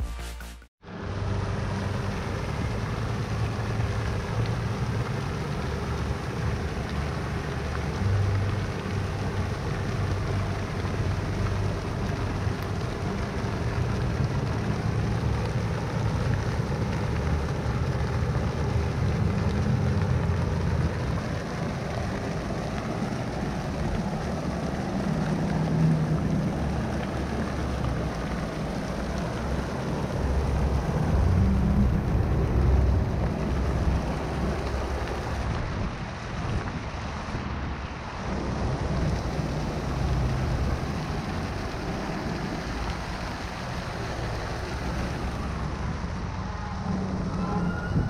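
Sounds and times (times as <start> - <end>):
traffic noise: 0.8 - 48.0.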